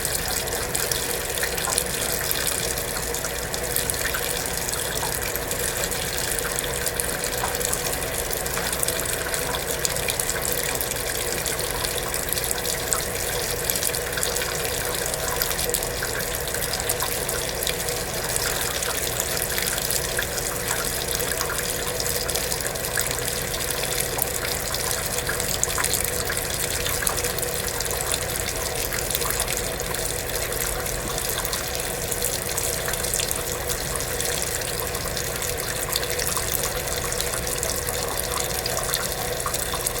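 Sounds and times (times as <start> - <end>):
faint steady hum: 0.0 - 40.0
water running into tub: 0.0 - 40.0.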